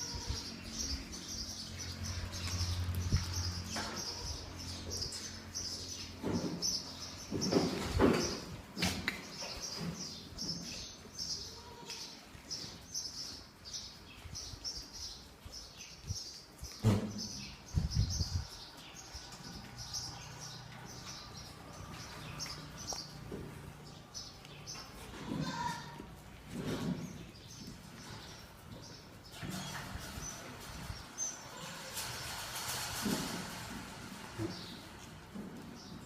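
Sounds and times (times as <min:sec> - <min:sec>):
small birds chirping: 0:00.0 - 0:32.6.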